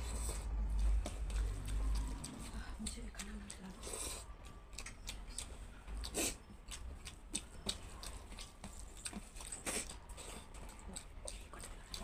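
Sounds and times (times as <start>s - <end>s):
wet squishes of hand mixing rice: 0.0s - 12.0s.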